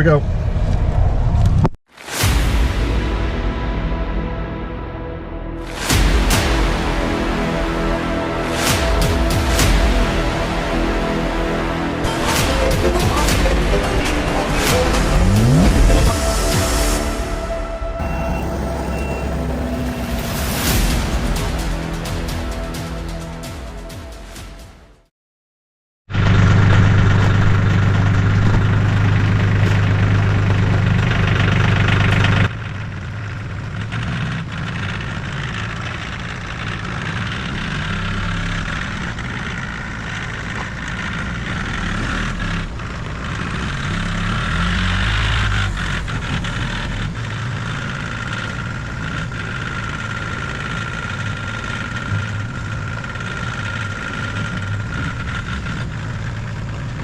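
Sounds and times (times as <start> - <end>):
tractor engine running: 5.6 - 16.5, 18.0 - 24.4, 26.2 - 57.0.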